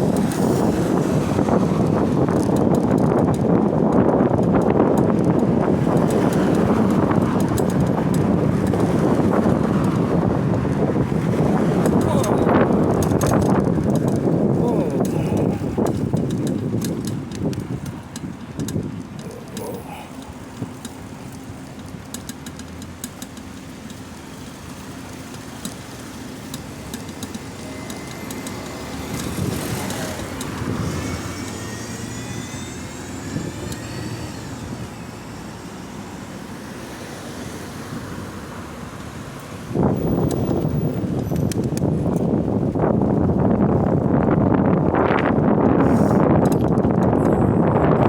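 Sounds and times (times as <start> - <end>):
background traffic noise: 0.0 - 48.0.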